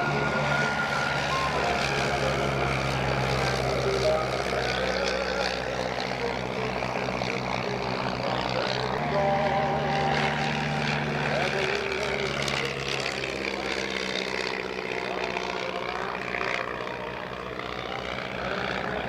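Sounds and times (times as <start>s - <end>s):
propeller plane engine running: 0.0s - 19.0s.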